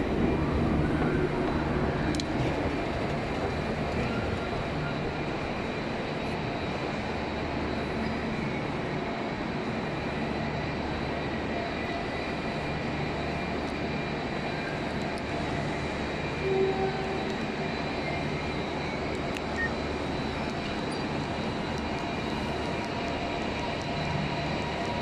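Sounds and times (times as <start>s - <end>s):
rumbling drone of trains and machinery: 0.0s - 25.0s.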